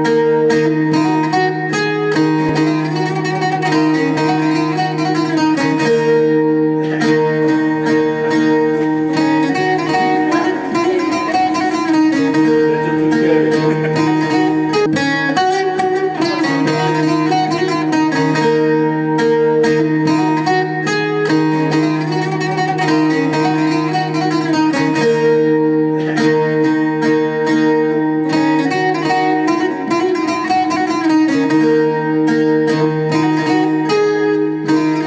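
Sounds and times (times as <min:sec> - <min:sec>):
plucked lute folk melody: 0:00.0 - 0:35.0.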